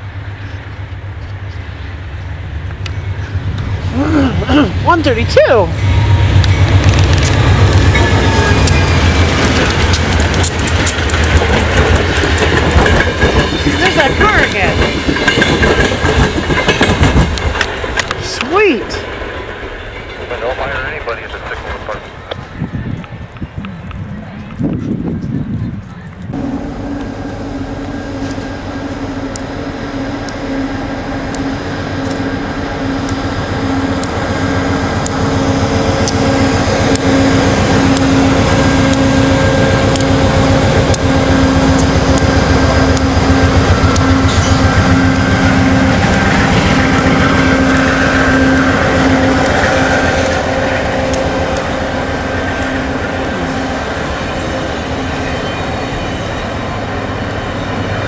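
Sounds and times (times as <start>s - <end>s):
diesel locomotive engine passing: 0.0s - 58.0s.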